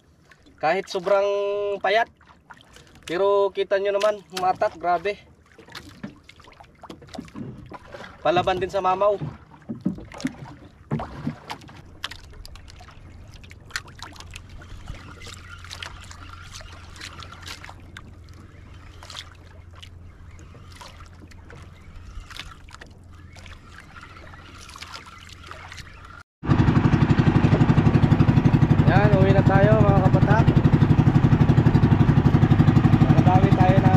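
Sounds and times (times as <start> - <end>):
water sloshing at hull: 0.0 - 33.9.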